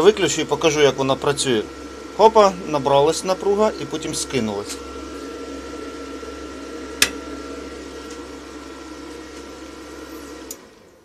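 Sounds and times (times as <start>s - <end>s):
thin high whine: 0.0s - 10.6s
welder fan and electronics hum: 0.0s - 11.0s.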